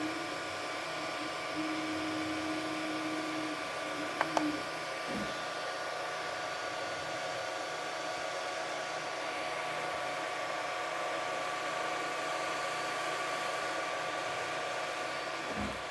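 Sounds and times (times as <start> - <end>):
cooling fans hissing: 0.0 - 15.9
steady whine: 0.0 - 15.9.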